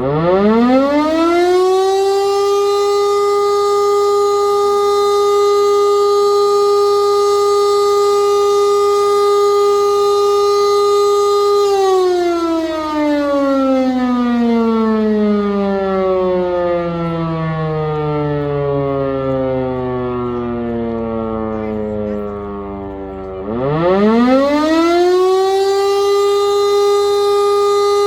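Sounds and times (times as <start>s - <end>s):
motor siren winding down: 0.0s - 28.0s.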